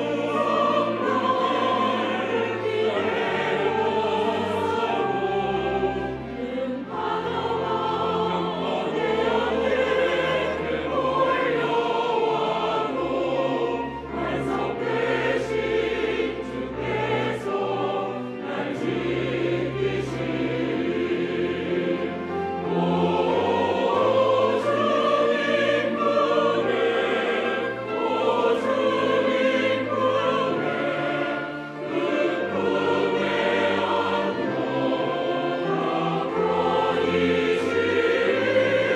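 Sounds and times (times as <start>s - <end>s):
church choir singing: 0.0s - 38.9s
piano: 0.0s - 38.9s.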